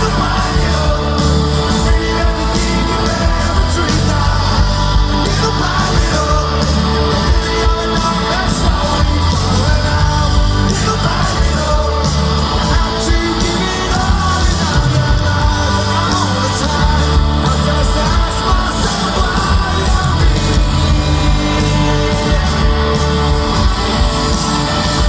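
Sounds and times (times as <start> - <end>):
loud rock band playing: 0.0 - 25.0
person singing: 0.0 - 25.0.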